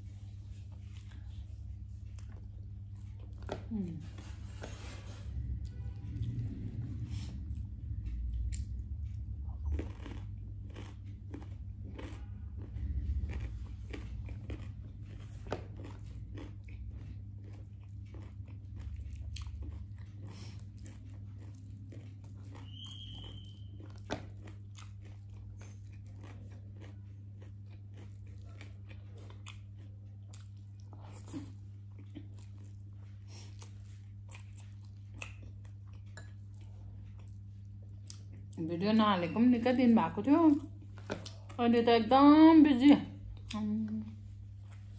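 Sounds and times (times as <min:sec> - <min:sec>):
steady low hum: 0:00.0 - 0:44.9
crunchy chewing: 0:00.6 - 0:38.6.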